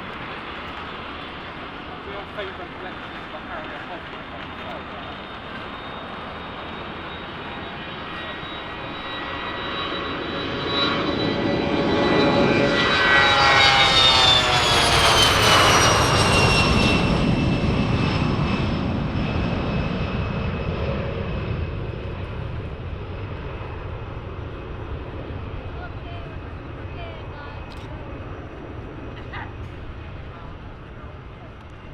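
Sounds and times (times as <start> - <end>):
airplane engines passing by: 0.0 - 31.9.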